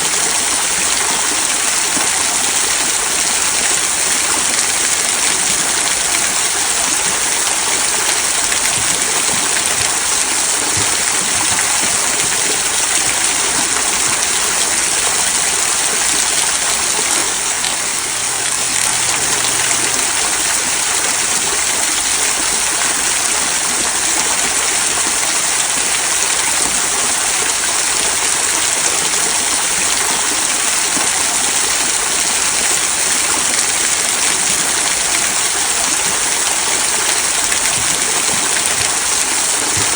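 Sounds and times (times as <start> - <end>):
small waterfall trickling over rocks: 0.0 - 39.9.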